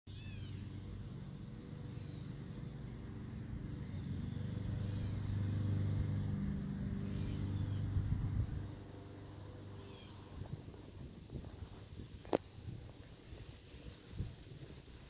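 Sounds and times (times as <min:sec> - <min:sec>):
insects trilling: 0:00.1 - 0:15.0
short insect chirps: 0:00.1 - 0:15.0
low hum: 0:00.3 - 0:13.3.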